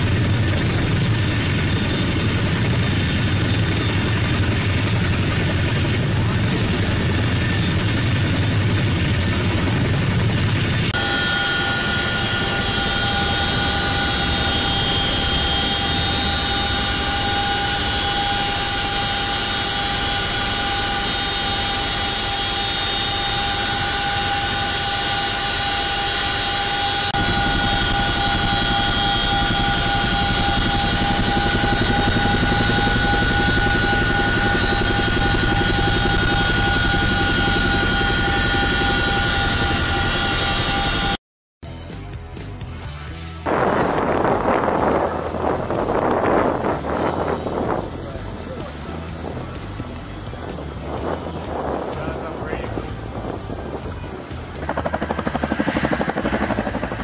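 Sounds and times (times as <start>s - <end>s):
helicopter rotors and engines: 0.0s - 41.2s, 41.8s - 57.0s
turbine whine: 0.0s - 41.2s, 42.8s - 57.0s.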